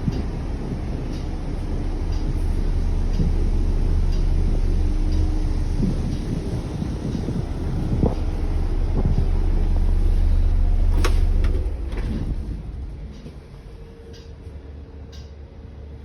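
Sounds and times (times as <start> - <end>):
diesel bus engine running: 0.0 - 16.0.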